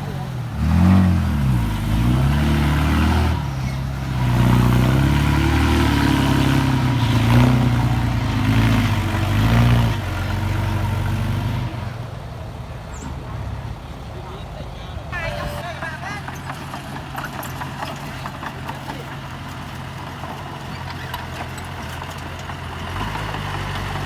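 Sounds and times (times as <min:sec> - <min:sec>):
diesel engine revving under load: 0:00.0 - 0:14.0, 0:15.9 - 0:24.0.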